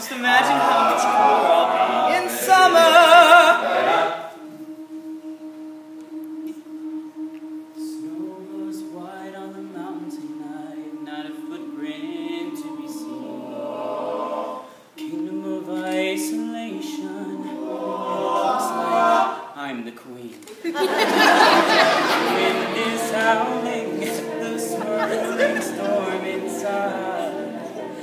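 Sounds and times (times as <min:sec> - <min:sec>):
male group singing in harmony: 0:00.1 - 0:19.5, 0:20.8 - 0:28.0.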